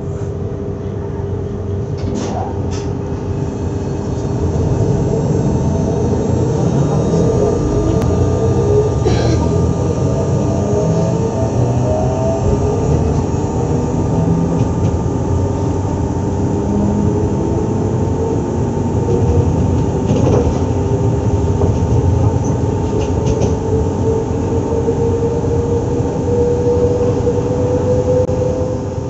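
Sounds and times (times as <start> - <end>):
train electrical hum: 0.0 - 29.0.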